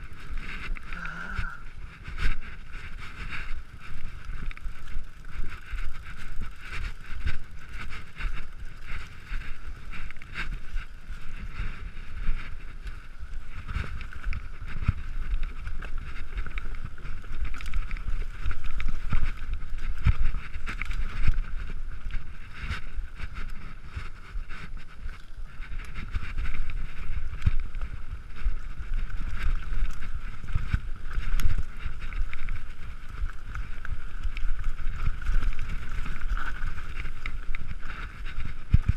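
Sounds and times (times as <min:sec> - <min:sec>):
bike rattles and knocks: 0:00.0 - 0:38.9
bike tyres rumbling: 0:00.0 - 0:38.9.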